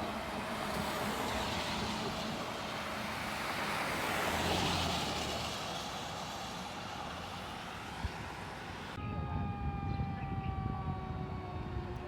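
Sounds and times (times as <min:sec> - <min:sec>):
fire truck driving past: 0:00.0 - 0:12.0.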